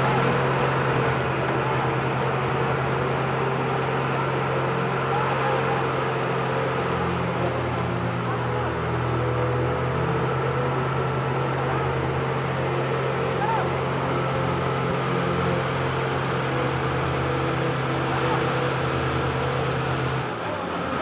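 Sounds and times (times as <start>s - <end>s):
truck engine drone: 0.0s - 21.0s
water jet spraying: 0.0s - 21.0s.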